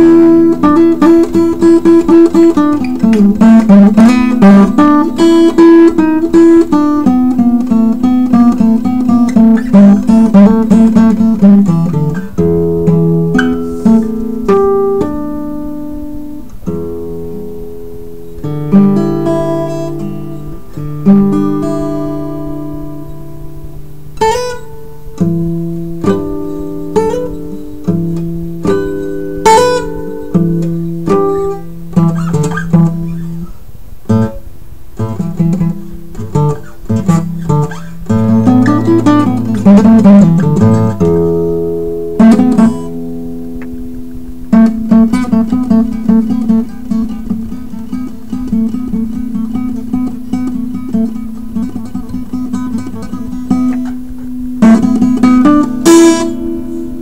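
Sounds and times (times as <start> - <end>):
fingerstyle acoustic guitar: 0.0 - 57.0.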